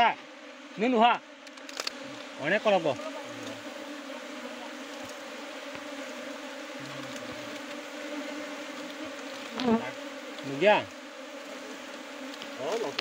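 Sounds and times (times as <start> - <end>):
bee flying past: 0.0 - 13.0
bees buzzing: 0.0 - 13.0.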